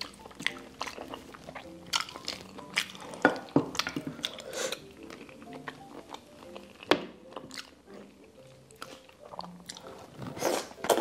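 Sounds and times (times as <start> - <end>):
wet chewing and mouth clicks: 0.0 - 11.0.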